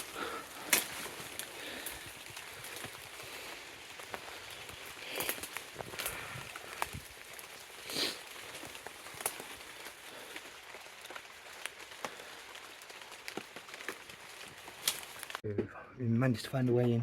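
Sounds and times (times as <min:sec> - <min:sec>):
crackles and ticks: 0:00.0 - 0:15.4
footsteps over rough ground: 0:00.0 - 0:15.5.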